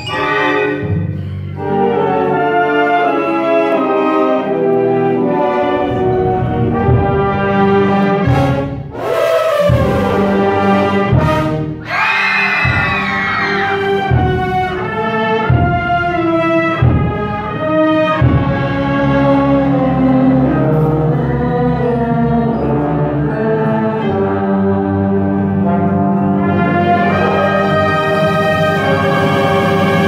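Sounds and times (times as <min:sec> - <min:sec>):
wind band playing: 0:00.0 - 0:30.0.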